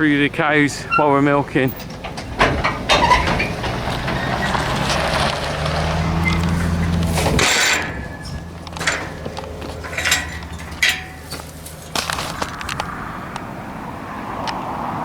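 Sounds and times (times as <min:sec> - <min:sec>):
vehicle engine running: 0:00.0 - 0:13.5.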